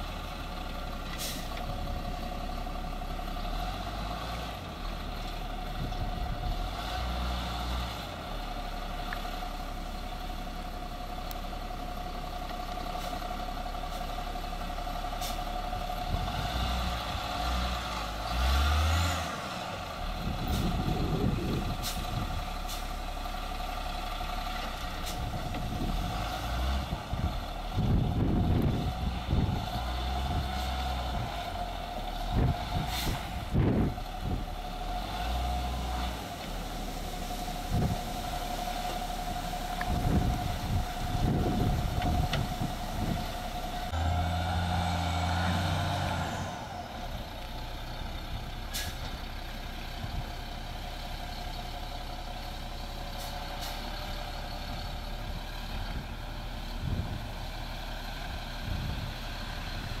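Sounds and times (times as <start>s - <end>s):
truck engine running: 0.0s - 60.0s.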